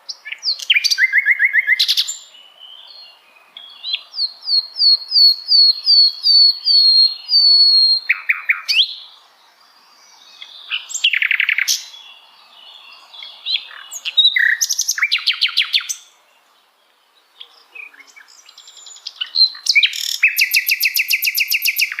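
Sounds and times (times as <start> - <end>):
bird singing whistles and trills: 0.1 - 9.1, 10.0 - 16.2, 17.4 - 22.0.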